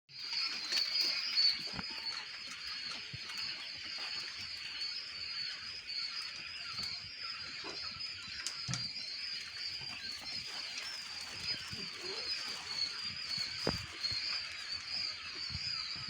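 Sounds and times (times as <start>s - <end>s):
quail chicks peeping: 0.1s - 16.0s.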